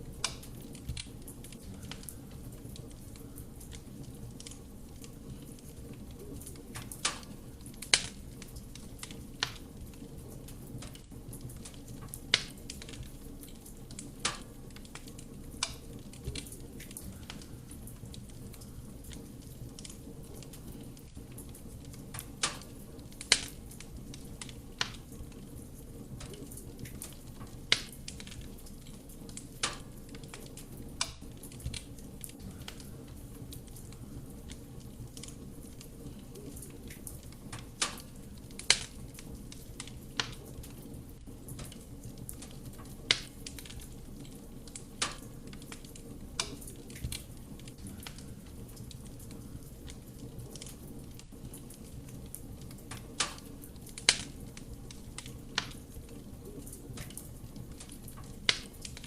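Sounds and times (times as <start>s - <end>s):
fire rumbling: 0.0s - 59.0s
wood crackling and popping: 0.0s - 59.0s.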